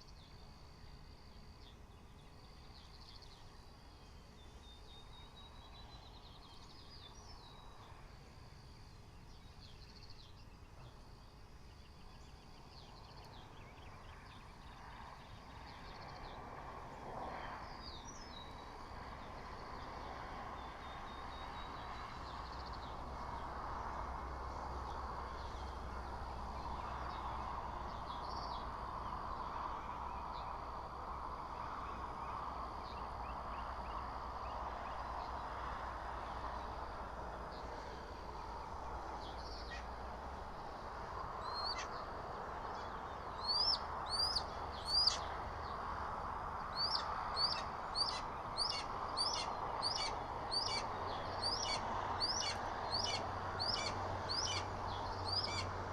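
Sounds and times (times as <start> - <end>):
small songbirds chirping: 0.0 - 55.9.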